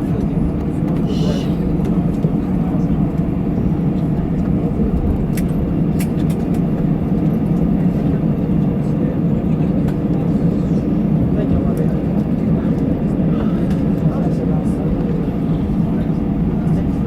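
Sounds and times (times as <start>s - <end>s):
airplane cabin rumble while taxiing: 0.0s - 17.0s.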